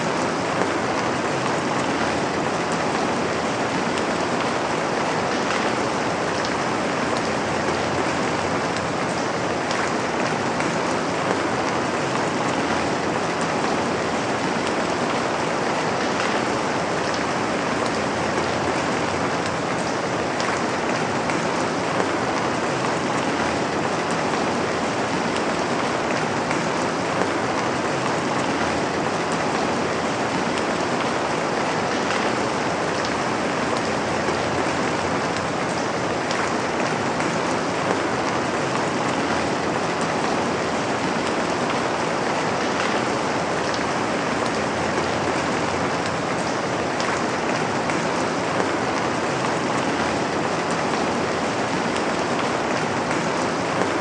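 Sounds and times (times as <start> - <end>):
steady rain on a surface: 0.0 - 54.0.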